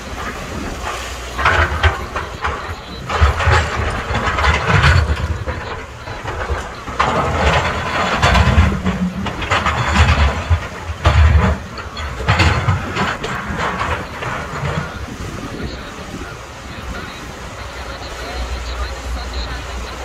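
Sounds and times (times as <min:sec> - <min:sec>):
small waves breaking on shore: 0:00.0 - 0:20.0
wind buffeting microphone: 0:00.0 - 0:20.0.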